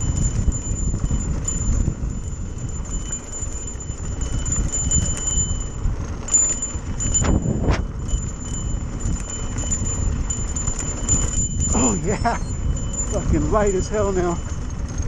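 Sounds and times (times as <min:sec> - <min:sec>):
bike rattling and ticking: 0:00.0 - 0:15.0
wind buffeting microphone: 0:00.0 - 0:15.0.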